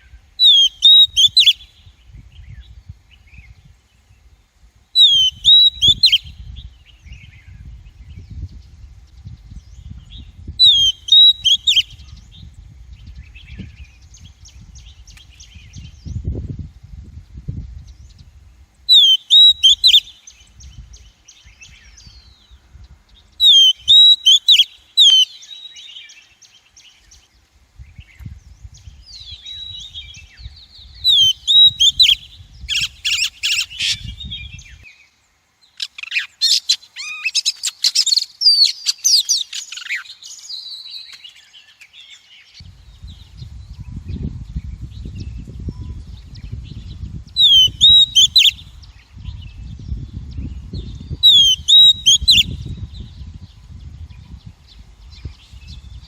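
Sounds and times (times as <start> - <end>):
bird singing whistled notes: 0.0 - 4.4, 5.0 - 16.6, 17.6 - 56.0.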